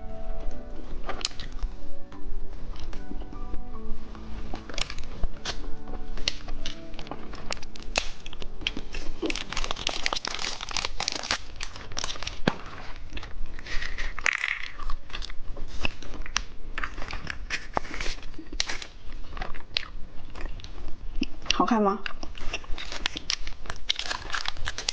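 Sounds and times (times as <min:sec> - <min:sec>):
plastic packaging crinkling: 0:04.0 - 0:21.3, 0:22.1 - 0:24.9.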